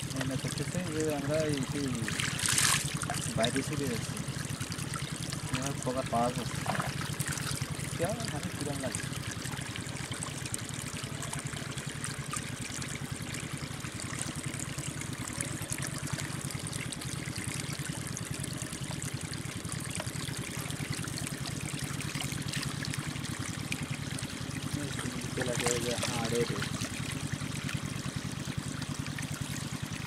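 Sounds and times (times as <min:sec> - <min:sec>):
shallow water trickling: 0:00.0 - 0:30.0.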